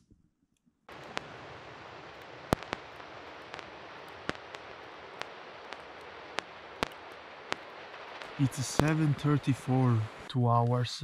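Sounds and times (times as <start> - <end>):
campfire crackling: 0.9 - 11.0
fire popping: 0.9 - 11.0.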